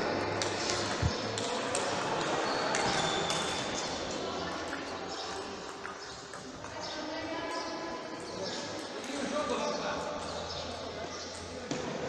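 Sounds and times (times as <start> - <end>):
ping-pong balls clicking: 0.2 - 6.9, 8.2 - 11.6.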